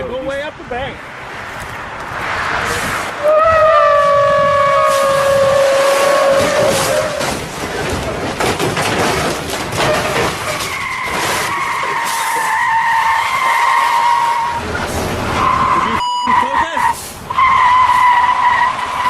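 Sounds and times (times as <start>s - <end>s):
rushing road noise: 0.0s - 19.0s
car tyres squealing: 1.5s - 19.0s.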